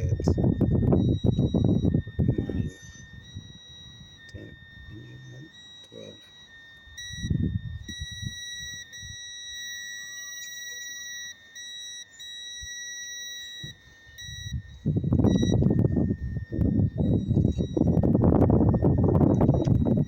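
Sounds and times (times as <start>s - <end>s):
multimeter continuity beeper tone: 0.0s - 20.0s.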